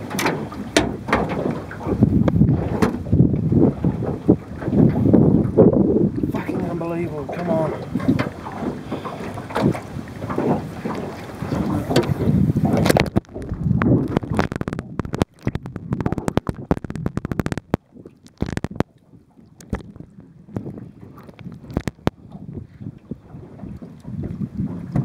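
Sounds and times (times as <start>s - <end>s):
muffled underwater water rushing: 0.0s - 25.0s
underwater sharp clicks and crackles: 0.0s - 25.0s.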